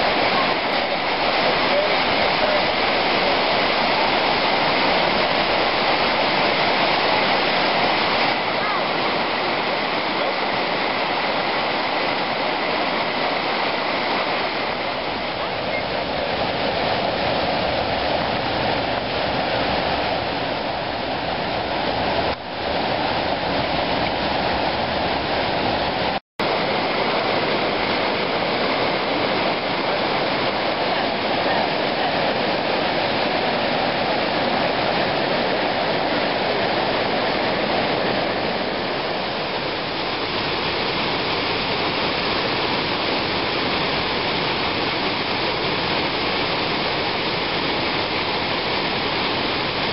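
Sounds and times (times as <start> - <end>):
river water rushing over rocks: 0.0 - 49.9.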